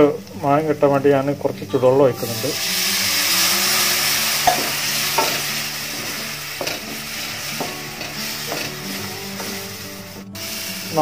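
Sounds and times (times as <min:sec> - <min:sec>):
onion masala sizzling in a pan: 0:00.0 - 0:11.0.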